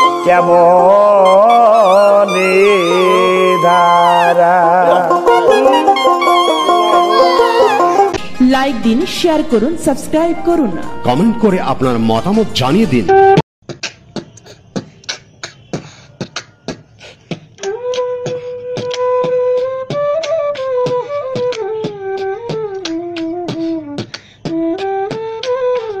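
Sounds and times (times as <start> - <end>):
flute-like lead melody: 0.0 - 13.4, 17.6 - 26.0
electronic percussive beat: 4.8 - 26.0.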